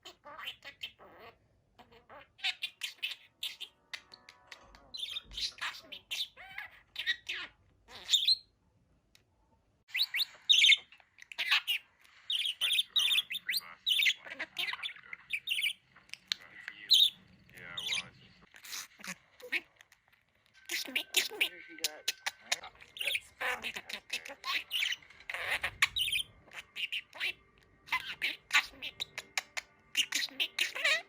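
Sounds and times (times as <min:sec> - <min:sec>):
budgerigar chirping: 0:00.0 - 0:08.5, 0:09.9 - 0:31.0.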